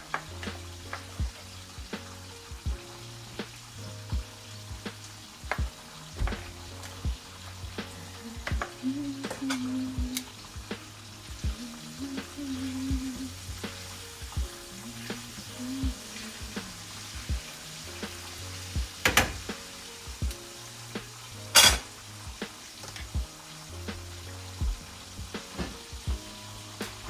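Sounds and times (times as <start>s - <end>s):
chicken frying in oil: 0.0s - 27.0s.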